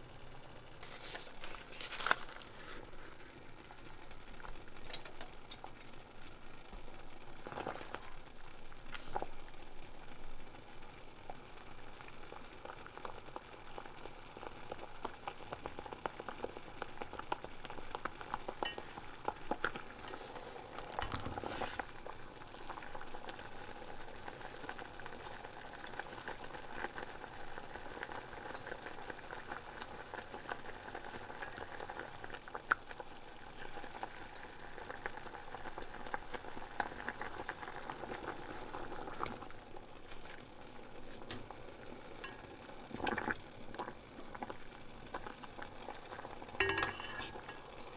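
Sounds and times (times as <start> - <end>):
water boiling in a pot: 0.0 - 47.9.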